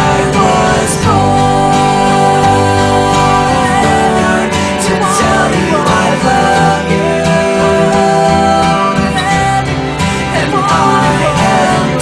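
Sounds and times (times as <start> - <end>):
guitar-led pop song: 0.0 - 12.0.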